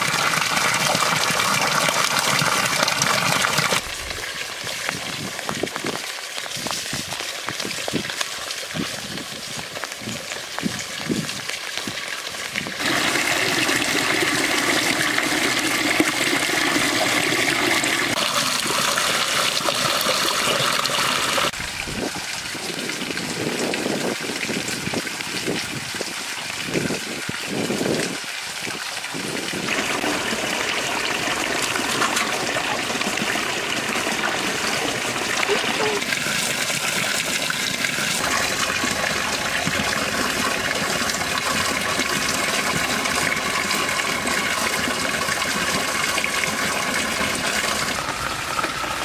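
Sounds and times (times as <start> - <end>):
water splashing into pond: 0.0 - 49.0.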